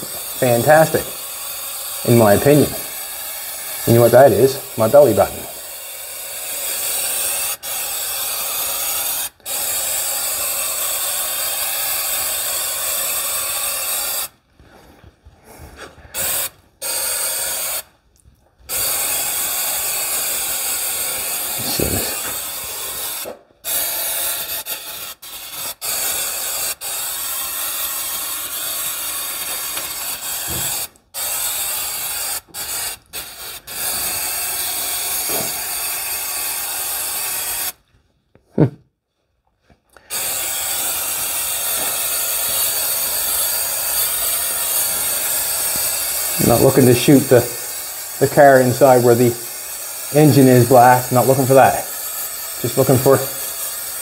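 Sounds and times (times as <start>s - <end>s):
aerosol can spraying: 0.0s - 14.4s, 15.5s - 17.9s, 18.7s - 37.8s, 40.0s - 54.0s.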